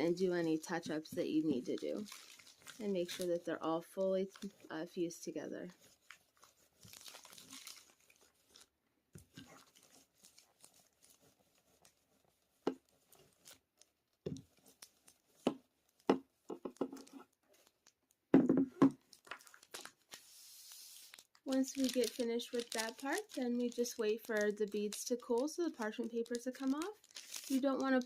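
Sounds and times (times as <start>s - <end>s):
paper crinkling: 0.1s - 4.7s, 5.7s - 16.1s, 16.8s - 18.1s, 19.0s - 28.0s.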